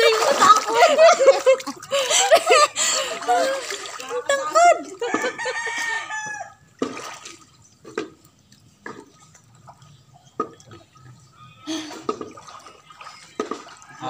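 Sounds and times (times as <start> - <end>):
small splashes and drips: 0.0 - 5.9, 6.5 - 14.0
pool water sloshing: 0.0 - 14.0.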